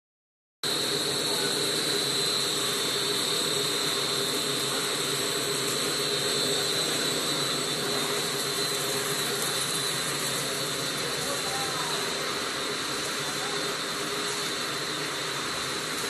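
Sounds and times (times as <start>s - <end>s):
high whine: 0.6s - 16.0s
oven blowers whirring: 0.6s - 16.0s.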